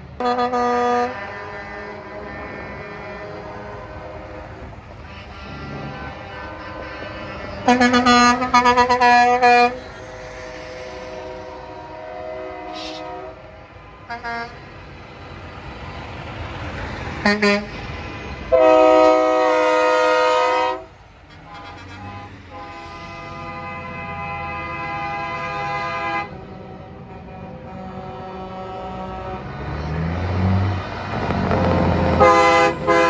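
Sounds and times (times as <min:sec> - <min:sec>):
diesel trucks passing: 0:00.0 - 0:33.0
truck air horn blasts: 0:00.2 - 0:14.7, 0:17.2 - 0:29.7, 0:32.1 - 0:33.0.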